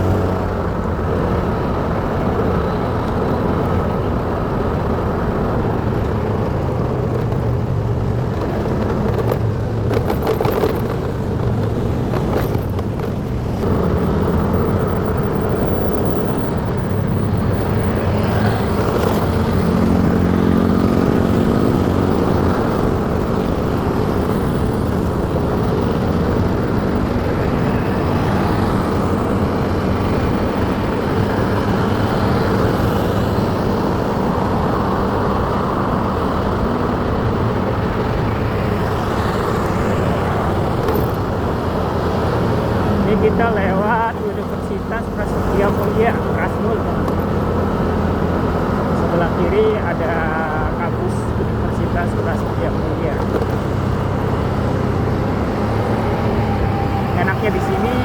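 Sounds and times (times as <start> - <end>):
motorcycle engine: 0.0 - 58.0
road noise: 0.0 - 58.0.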